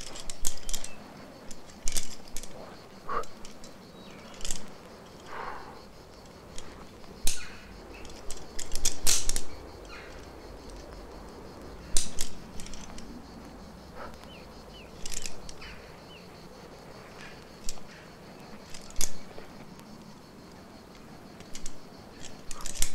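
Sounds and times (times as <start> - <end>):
carabiners and rope clicking: 0.0 - 22.9.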